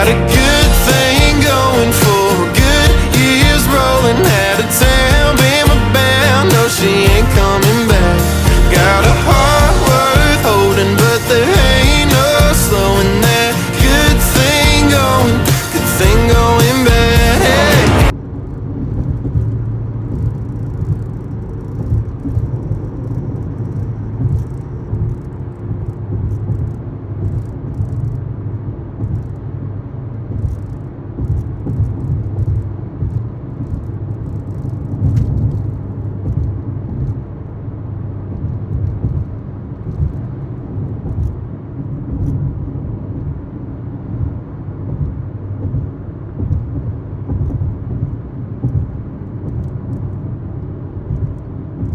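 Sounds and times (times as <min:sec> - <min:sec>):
low engine rumble: 0:00.0 - 0:51.9.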